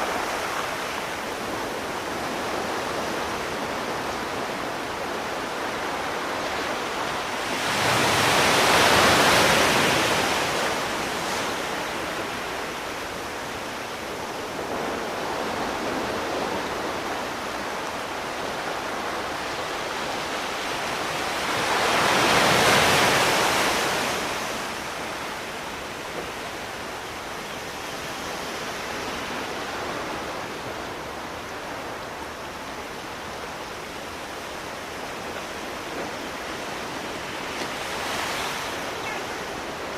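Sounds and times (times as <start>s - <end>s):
surf washing ashore: 0.0s - 39.9s
waves breaking: 0.0s - 39.9s.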